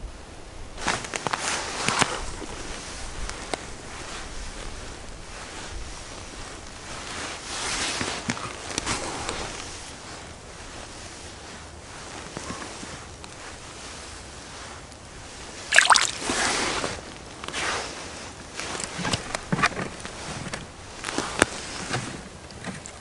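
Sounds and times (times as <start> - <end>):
rustling of winter clothing: 0.2 - 23.0.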